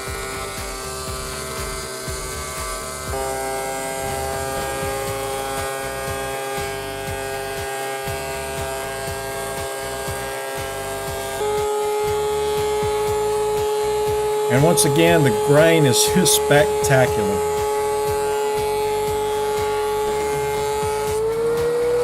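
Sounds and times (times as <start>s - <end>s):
background music of held chords: 0.0s - 22.0s
thickness planer hissing: 0.0s - 22.0s.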